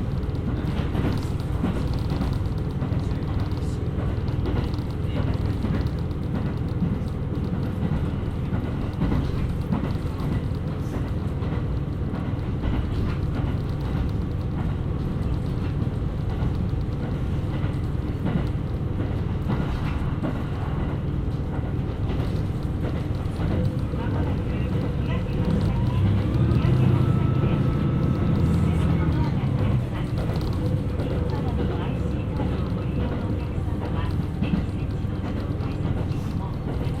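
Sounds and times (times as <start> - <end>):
diesel railcar rumbling: 0.0 - 37.0.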